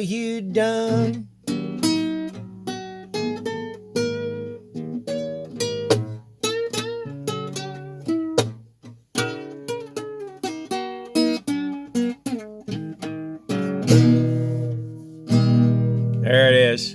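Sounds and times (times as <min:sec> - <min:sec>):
acoustic guitar fingerpicking: 0:00.0 - 0:16.9.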